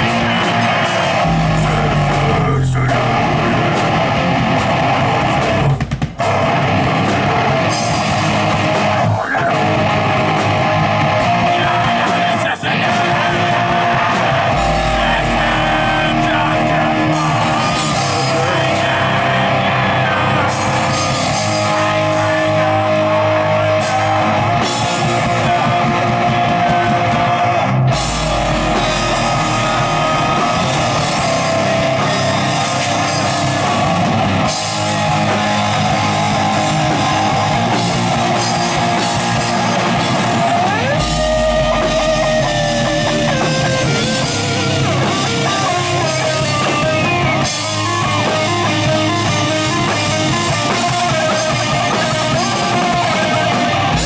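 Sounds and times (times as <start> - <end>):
metal band playing live: 0.0 - 54.0.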